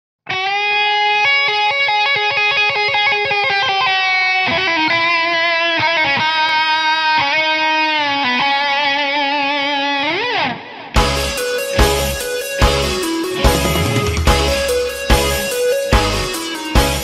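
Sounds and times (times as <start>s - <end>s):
electric guitar: 0.3s - 17.0s.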